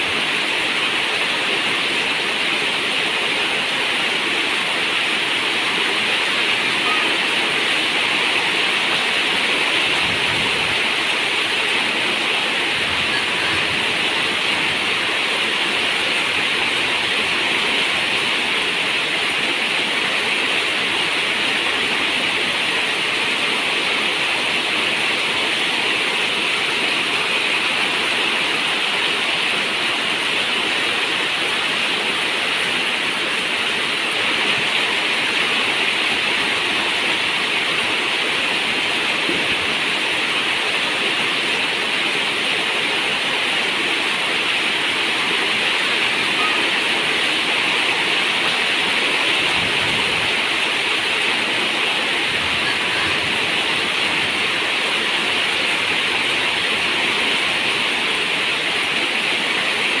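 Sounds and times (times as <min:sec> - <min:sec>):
heavy rain on a metal roof: 0:00.0 - 1:00.0.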